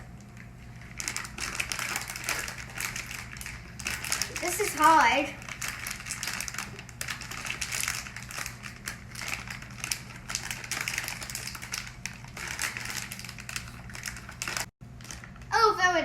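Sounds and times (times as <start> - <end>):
packaging crinkling and rustling: 0.0 - 15.5.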